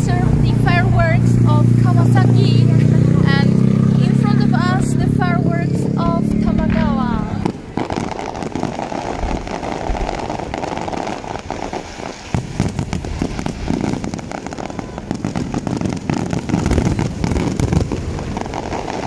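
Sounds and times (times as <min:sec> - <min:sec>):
fireworks bursting with crackles: 0:00.0 - 0:19.0.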